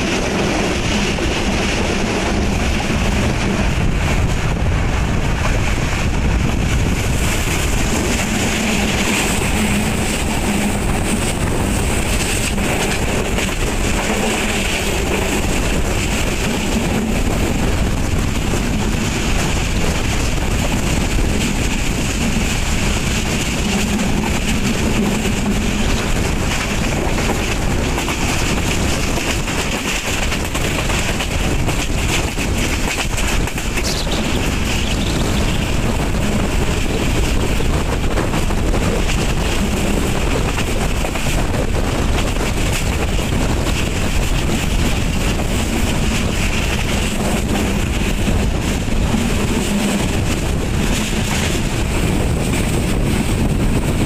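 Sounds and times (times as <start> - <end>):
train running at speed: 0.0 - 54.0
wind rush on microphone: 0.0 - 54.0.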